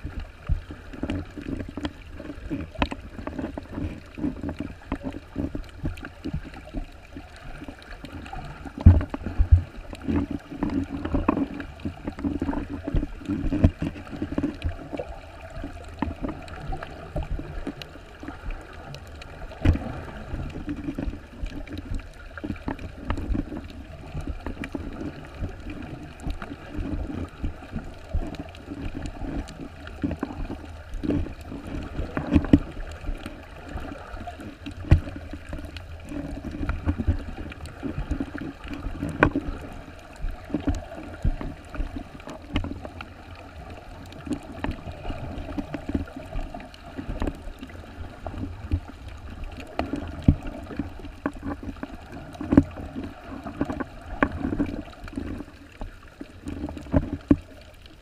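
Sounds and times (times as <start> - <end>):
muffled underwater sloshing: 0.0 - 58.0
small knocks and clicks: 0.0 - 58.0.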